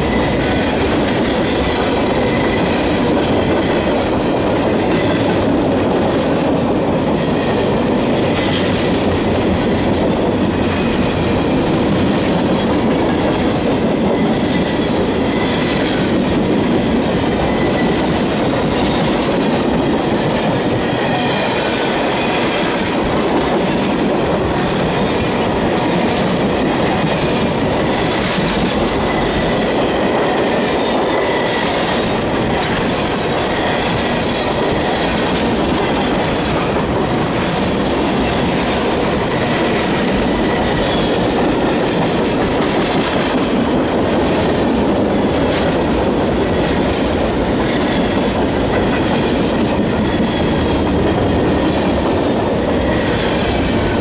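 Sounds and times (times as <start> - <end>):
train cars rolling on rails: 0.0 - 54.0.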